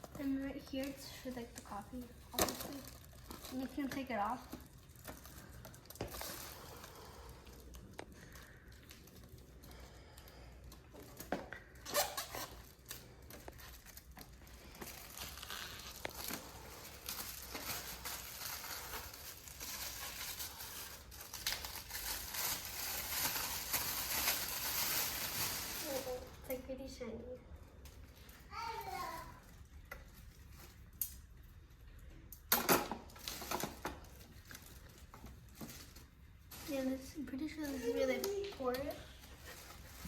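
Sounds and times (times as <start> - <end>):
plastic film crinkling and tearing: 0.0 - 10.4, 11.0 - 26.5, 33.1 - 40.0.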